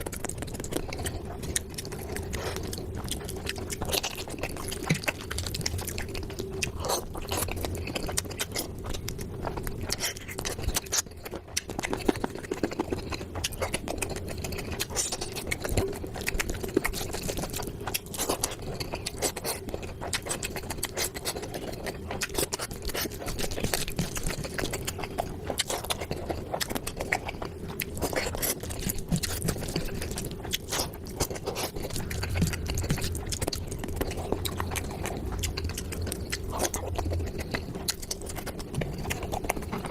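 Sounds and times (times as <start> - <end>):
chewing and wet smacking: 0.0 - 39.9
faint hum: 0.0 - 39.9.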